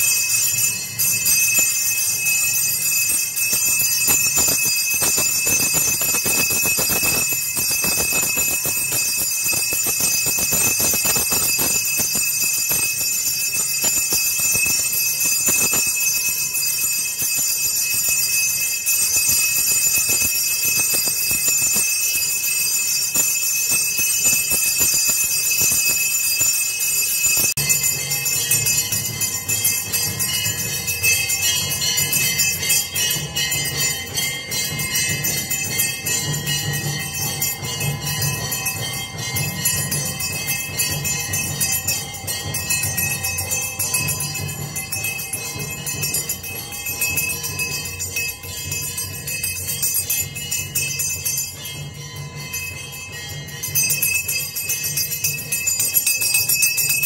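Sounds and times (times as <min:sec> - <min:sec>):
temple bells ringing: 0:00.0 - 0:57.0.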